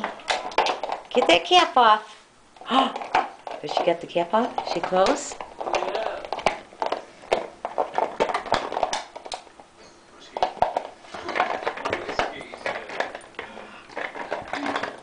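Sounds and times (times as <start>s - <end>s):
dog chewing on bottle: 0.0s - 1.8s, 2.5s - 15.0s.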